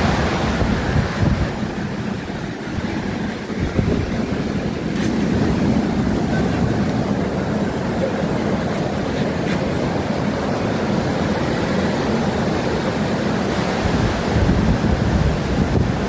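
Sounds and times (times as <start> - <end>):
hurricane wind buffeting microphone: 0.0 - 16.0.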